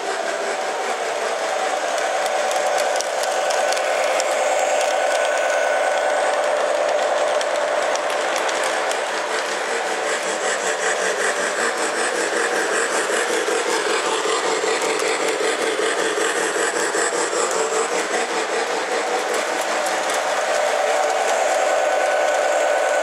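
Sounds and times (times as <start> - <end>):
model train motor whirring: 0.0 - 23.0.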